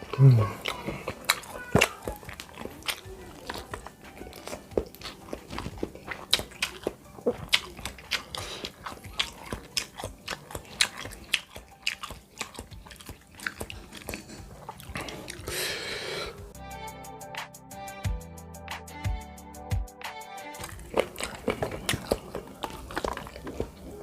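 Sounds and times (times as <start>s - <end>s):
person chewing with wet smacks: 0.0s - 16.4s, 20.6s - 24.0s.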